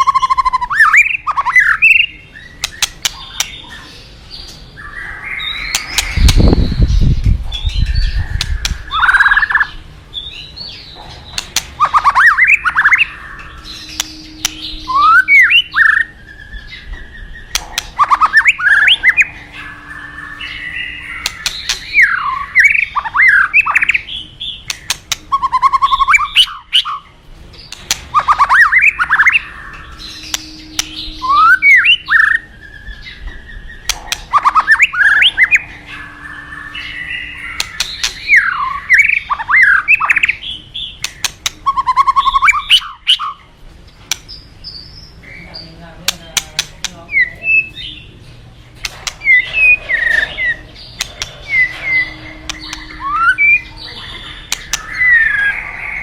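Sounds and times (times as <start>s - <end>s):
bird singing whistled notes: 0.0s - 43.4s, 49.0s - 56.0s.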